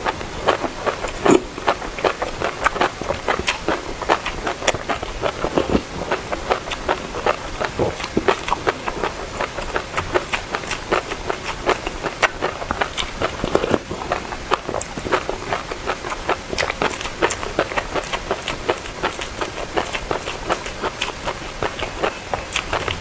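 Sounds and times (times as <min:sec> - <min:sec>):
chewing and crunching fruit seeds: 0:00.0 - 0:23.0.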